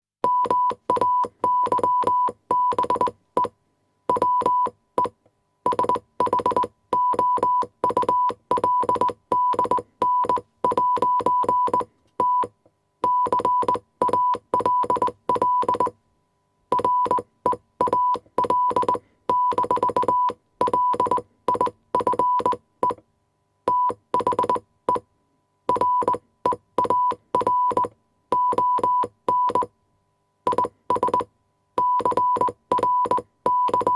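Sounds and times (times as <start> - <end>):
morse code tone: 0.2 - 3.5, 5.7 - 16.0, 16.7 - 23.0, 23.7 - 25.0, 25.7 - 29.7, 30.5 - 33.9.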